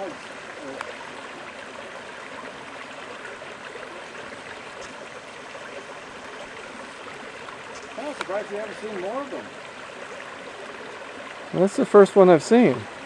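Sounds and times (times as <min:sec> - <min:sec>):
creek water over rocks: 0:00.0 - 0:13.0.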